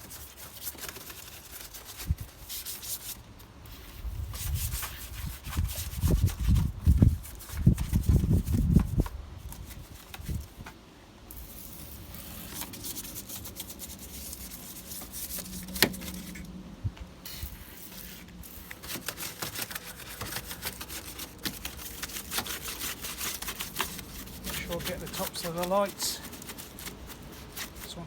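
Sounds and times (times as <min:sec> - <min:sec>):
brush scrubbing: 0:00.0 - 0:10.6, 0:11.4 - 0:16.5, 0:17.3 - 0:28.0.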